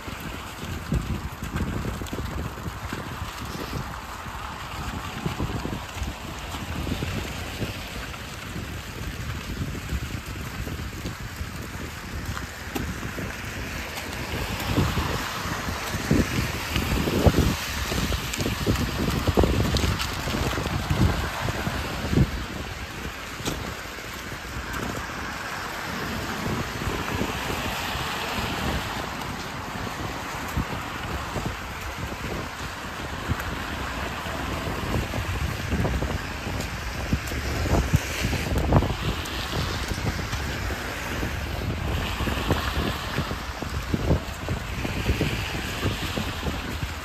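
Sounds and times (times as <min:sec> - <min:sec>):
footsteps crunching on icy slush: 0:00.0 - 0:47.0
wind buffeting microphone: 0:00.0 - 0:47.0.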